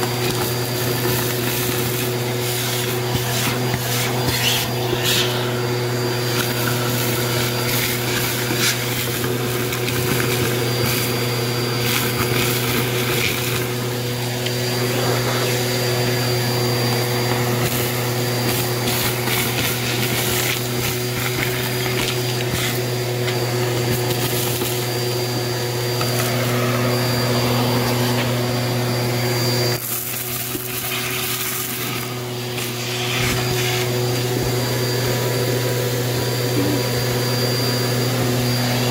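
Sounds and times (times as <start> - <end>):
debris rattling up vacuum hose: 0.0 - 37.4
vacuum cleaner running: 0.0 - 38.9.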